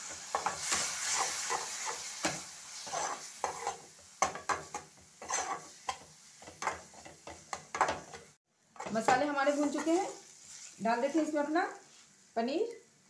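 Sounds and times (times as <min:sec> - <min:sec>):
spatula scraping pan: 0:00.0 - 0:10.8
spices sizzling in hot oil: 0:00.0 - 0:13.0.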